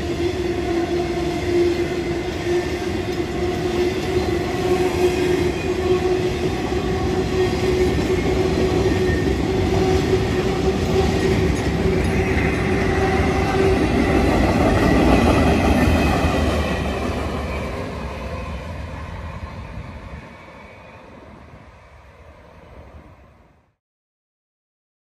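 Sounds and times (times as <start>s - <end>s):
freight train rolling on rails: 0.0s - 23.5s.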